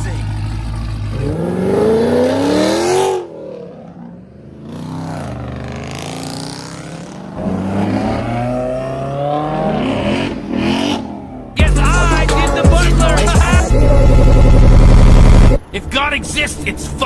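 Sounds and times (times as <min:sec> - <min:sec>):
car engine revving: 0:00.0 - 0:15.7.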